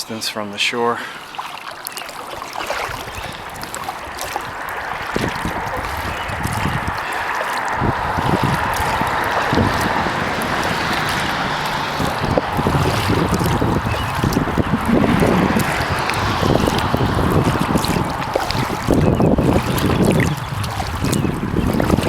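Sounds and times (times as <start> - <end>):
water splashing off paddle: 1.0 - 22.0
wind buffeting microphone: 2.4 - 22.0.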